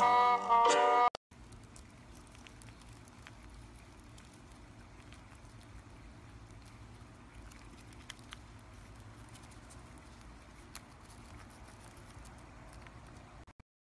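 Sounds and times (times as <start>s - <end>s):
chipmunk nibbling food: 1.3s - 13.5s
low background rumble: 1.3s - 13.5s.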